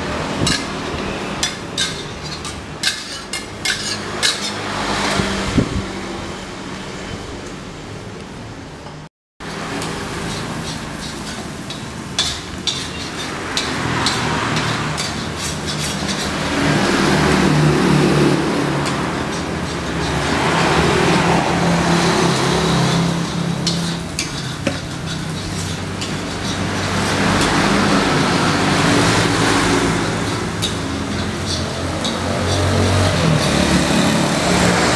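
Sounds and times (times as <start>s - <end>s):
rice frying in a wok: 0.0s - 5.4s, 9.4s - 34.9s.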